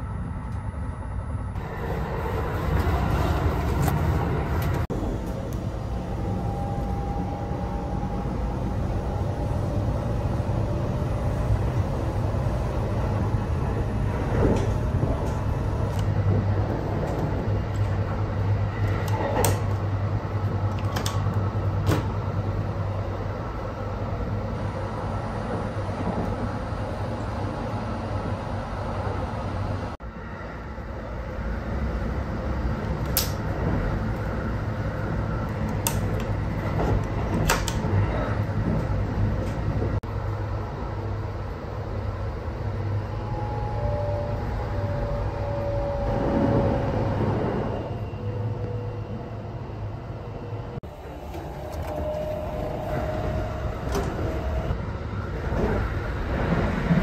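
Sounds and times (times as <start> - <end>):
electric train rumble and hum: 0.0 - 57.0.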